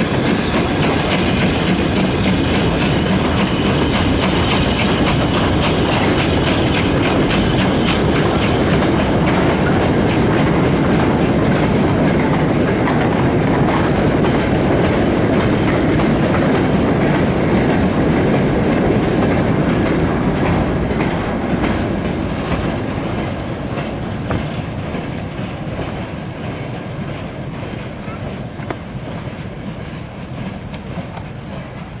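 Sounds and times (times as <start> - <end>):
train wheels clacking over rail joints: 0.0 - 32.0.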